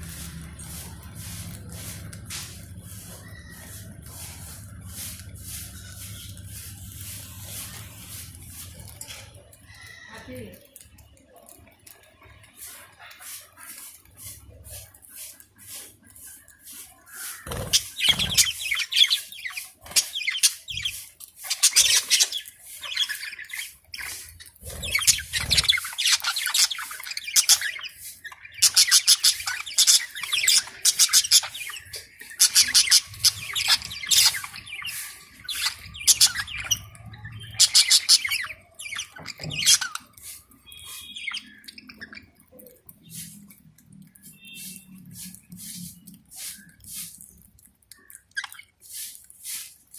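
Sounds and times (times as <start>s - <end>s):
lovebirds chirping and squawking: 0.0s - 49.9s.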